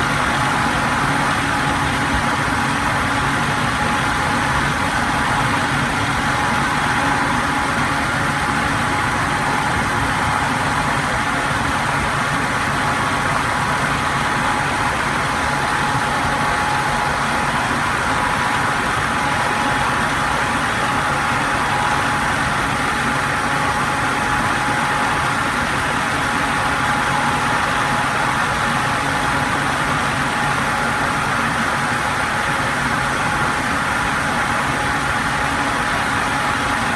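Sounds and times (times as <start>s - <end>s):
electric fan running: 0.0s - 36.9s.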